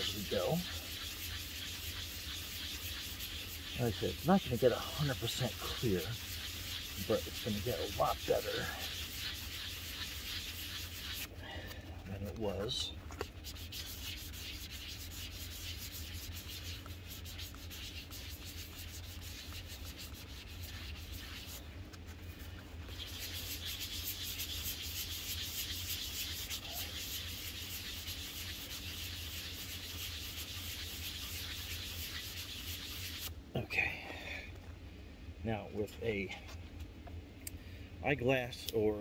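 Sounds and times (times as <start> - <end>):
sanding sponge scratching plastic: 0.0 - 33.3.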